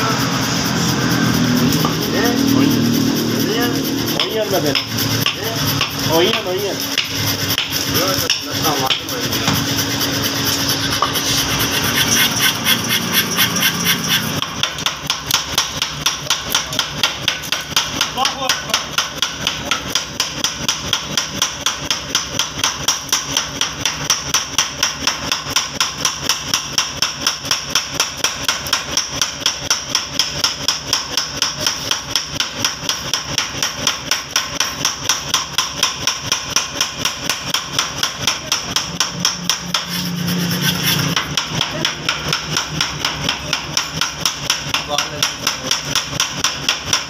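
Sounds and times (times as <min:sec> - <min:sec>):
power hammer pounding hot steel: 0:00.0 - 0:47.0.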